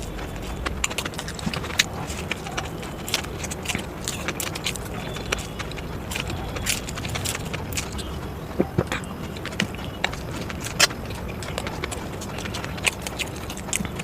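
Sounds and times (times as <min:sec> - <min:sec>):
wet chewing sounds: 0:00.0 - 0:14.0.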